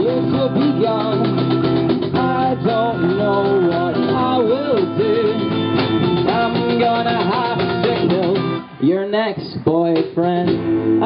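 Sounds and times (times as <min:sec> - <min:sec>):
cajon beat: 0:00.0 - 0:11.0
electric guitar: 0:00.0 - 0:11.0
strummed acoustic guitar: 0:00.0 - 0:11.0.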